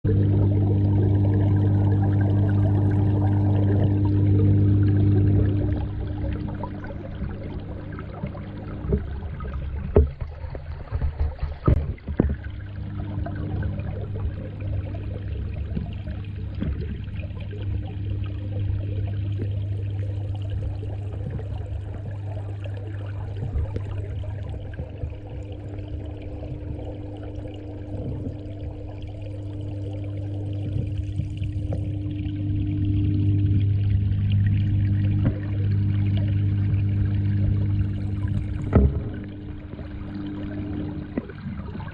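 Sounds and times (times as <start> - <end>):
steady low hum: 0.0 - 41.9
water pouring and trickling: 0.1 - 41.9.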